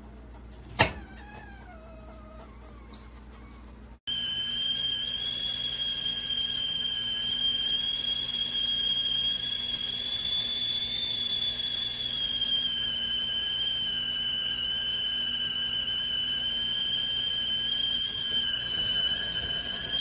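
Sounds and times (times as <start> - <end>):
kettle whistling: 0.7 - 20.0.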